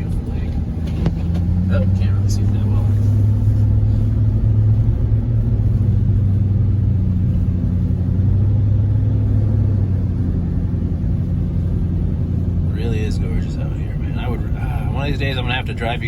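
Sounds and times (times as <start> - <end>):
engine and road noise drone: 0.0 - 16.0.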